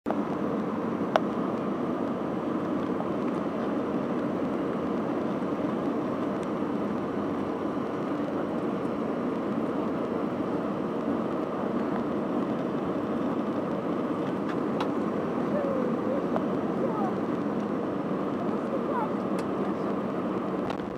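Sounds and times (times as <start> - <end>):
airplane engines rumbling: 0.1 - 20.9
cabin airflow: 0.1 - 20.9.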